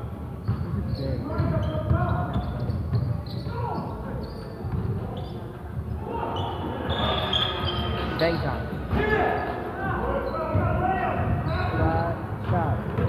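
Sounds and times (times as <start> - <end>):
sneakers squeaking on floor: 0.0 - 13.0.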